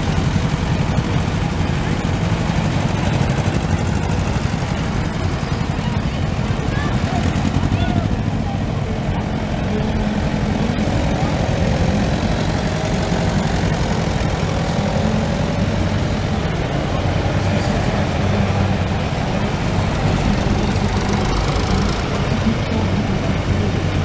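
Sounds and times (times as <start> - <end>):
tractor engines running: 0.0 - 24.0.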